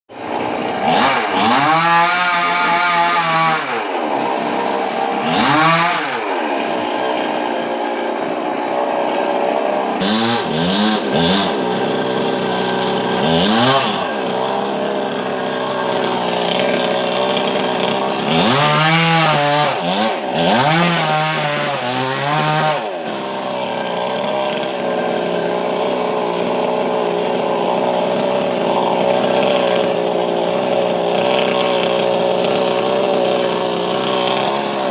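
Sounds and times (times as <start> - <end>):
chainsaw engine revving: 0.1 - 34.9.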